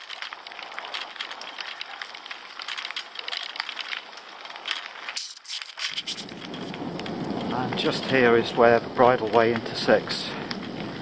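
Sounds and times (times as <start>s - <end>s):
tyres crunching on gravel: 0.0s - 11.0s.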